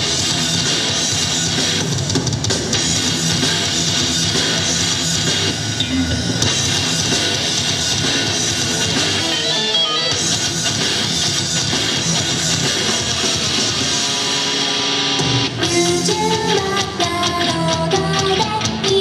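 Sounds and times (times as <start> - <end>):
rock music with electric guitar: 0.0 - 19.0.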